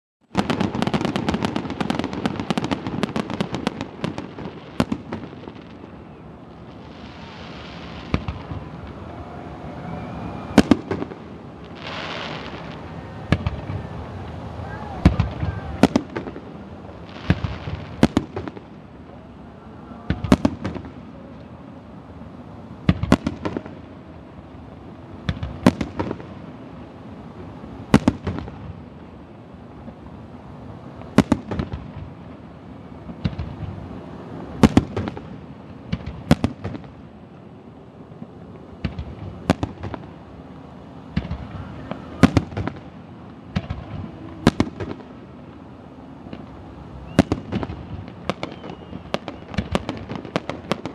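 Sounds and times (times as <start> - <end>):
fireworks bangs: 0.3 - 19.3, 20.0 - 21.6, 22.8 - 30.1, 31.0 - 37.2, 38.0 - 50.9.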